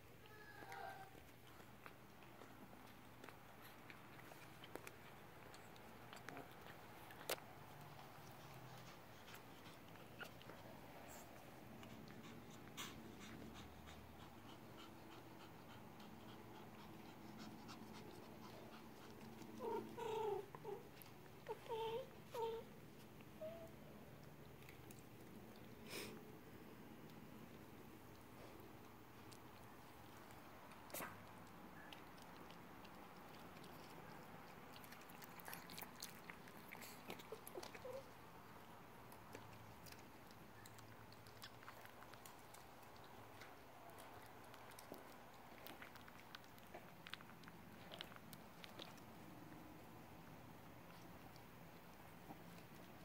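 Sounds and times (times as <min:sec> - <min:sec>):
puppies play-biting: 0:00.6 - 0:53.0.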